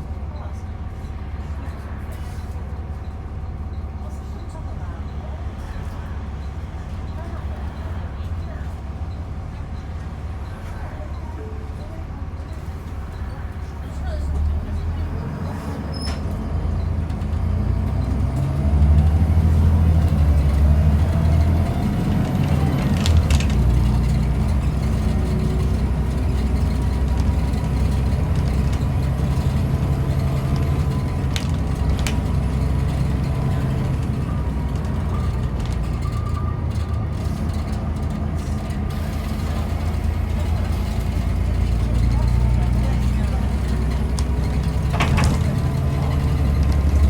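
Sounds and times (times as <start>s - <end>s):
bus engine rumbling: 0.0s - 47.0s.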